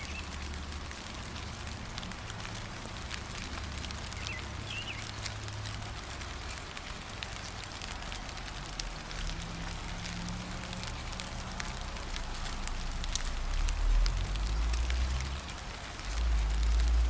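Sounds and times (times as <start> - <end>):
gentle rain: 0.0 - 17.0.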